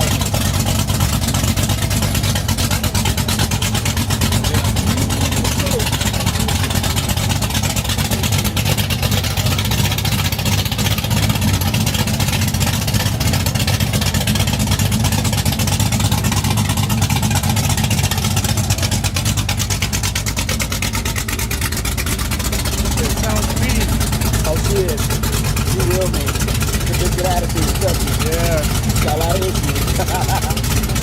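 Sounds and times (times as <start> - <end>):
car engine running loud: 0.0 - 31.0.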